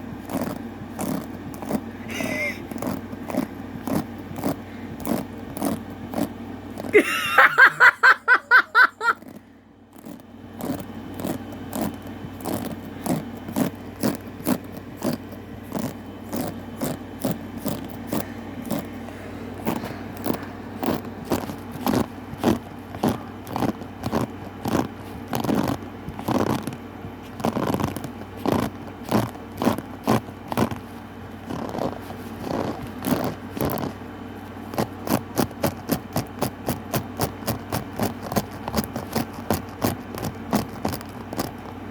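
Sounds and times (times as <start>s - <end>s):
grooming tool scraping: 0.0s - 41.7s
steady low hum: 0.0s - 41.9s.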